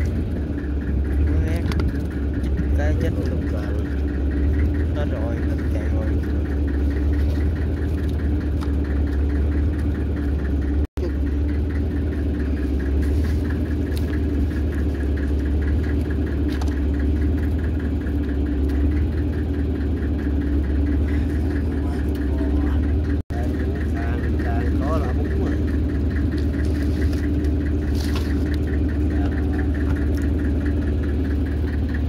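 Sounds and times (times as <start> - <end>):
boat engine droning and ticking: 0.0 - 32.0.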